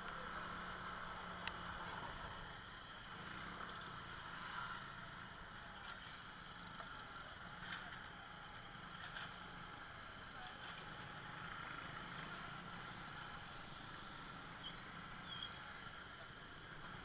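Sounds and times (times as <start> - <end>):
road and wind noise: 0.0 - 17.0
scooter engine humming: 0.0 - 17.0.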